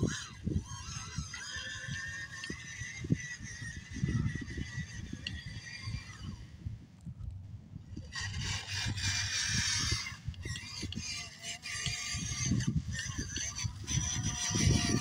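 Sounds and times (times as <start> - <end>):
small electric motor whining: 0.0 - 15.0
wind rumble on microphone: 0.0 - 15.0.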